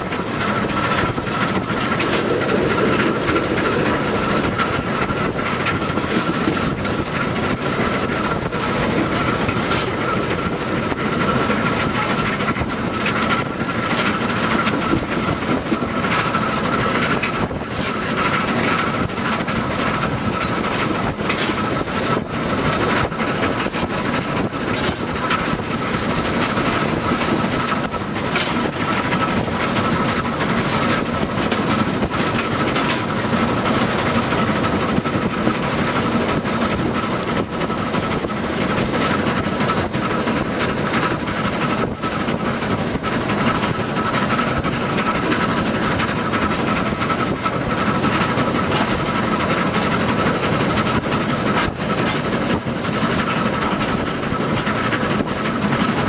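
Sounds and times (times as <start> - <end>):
clicks of wheels over rail joints: 0.0 - 56.0
wheels rumbling on rail: 0.0 - 56.0.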